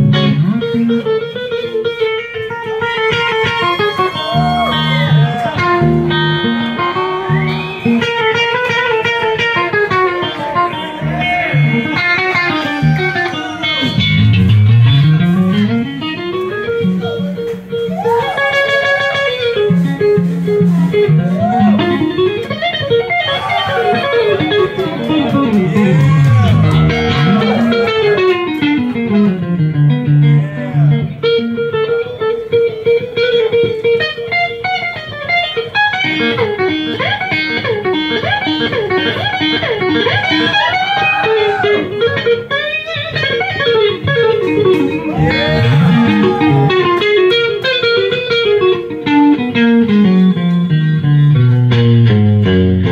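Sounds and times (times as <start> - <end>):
electric guitar solo: 0.0 - 52.9.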